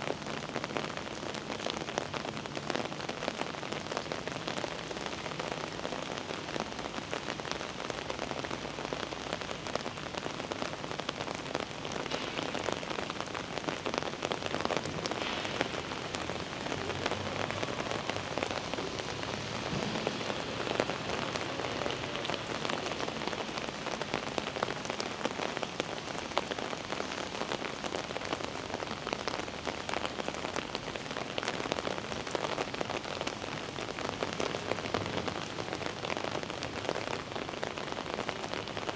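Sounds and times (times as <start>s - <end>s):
heavy rain on street: 0.0s - 38.9s.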